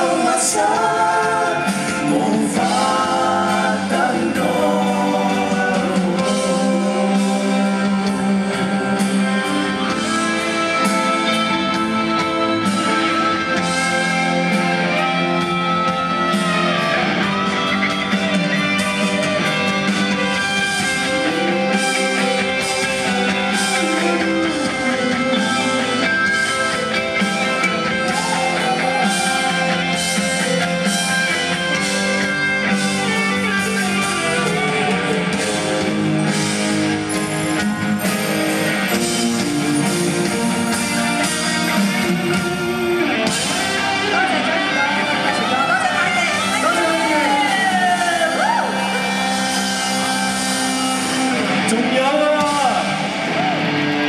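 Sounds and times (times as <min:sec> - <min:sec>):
electric guitar: 0:00.0 - 0:54.0
rock band playing: 0:00.0 - 0:54.0.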